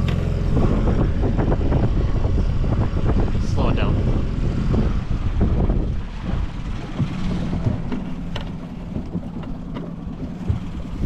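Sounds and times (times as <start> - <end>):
boat motor hum: 0.0 - 11.0
wind rumbling on microphone: 0.0 - 11.0.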